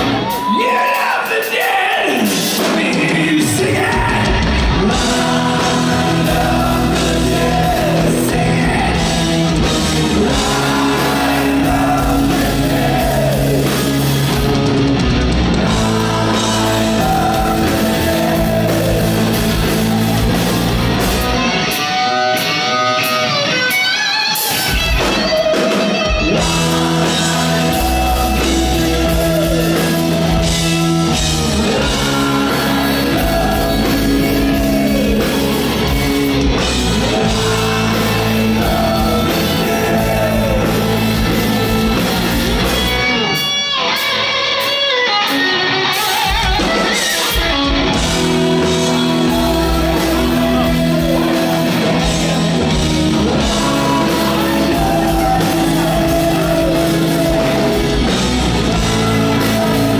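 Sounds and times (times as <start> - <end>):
live hard rock band: 0.0 - 59.9.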